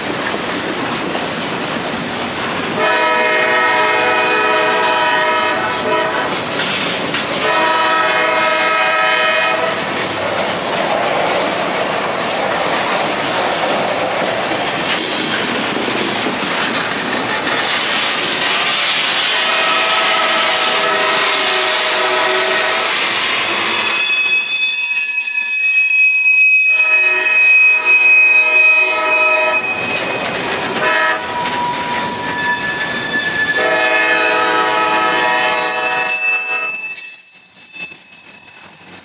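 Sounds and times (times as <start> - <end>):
freight train wheels rumbling: 0.0 - 39.0
steel wheels squealing on rail: 0.0 - 39.0.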